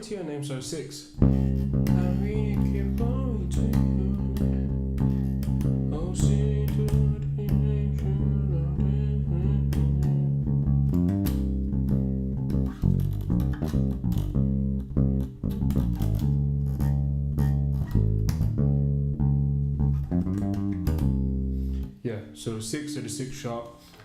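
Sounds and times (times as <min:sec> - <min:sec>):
electric bass line: 0:01.2 - 0:22.4.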